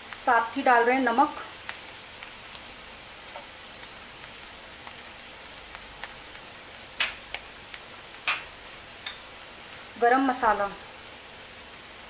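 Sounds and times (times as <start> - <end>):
filling sizzling in oil: 0.0 - 12.0.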